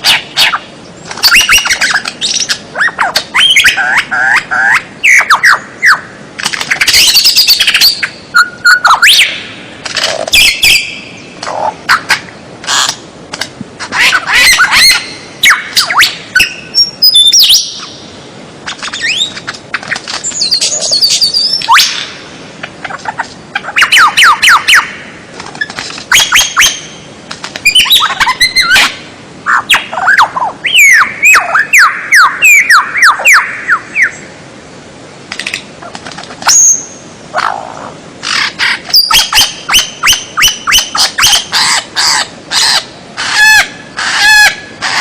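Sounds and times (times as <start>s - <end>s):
songbird singing: 0.0s - 34.5s, 35.3s - 45.0s.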